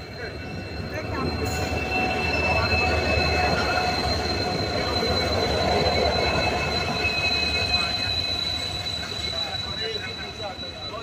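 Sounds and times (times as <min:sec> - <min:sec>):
high-pitched squeal: 0:00.0 - 0:11.0
low locomotive engine rumble: 0:00.0 - 0:11.0.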